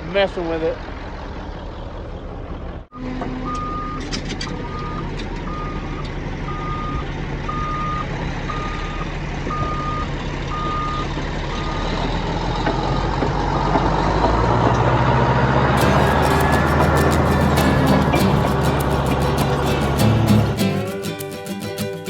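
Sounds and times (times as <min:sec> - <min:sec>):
diesel engine running: 0:00.3 - 0:20.9.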